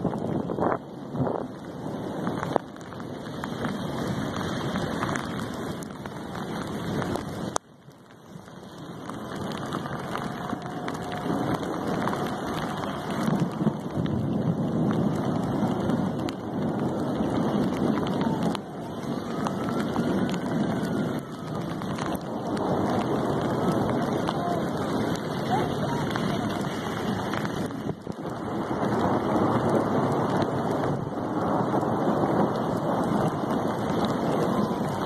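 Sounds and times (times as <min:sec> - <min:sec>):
rain and wind rushing: 0:00.0 - 0:35.0.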